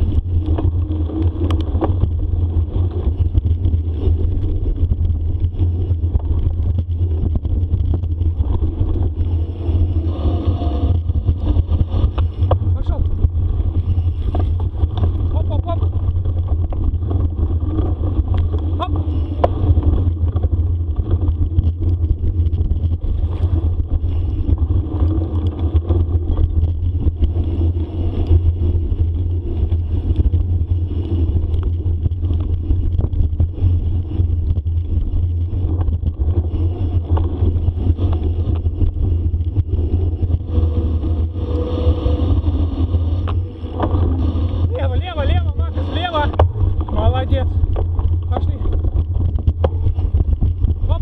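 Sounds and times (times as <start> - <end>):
bicycle tyre noise: 0.0 - 51.0
bike rattling and knocking: 0.0 - 51.0
wind on microphone: 0.0 - 51.0.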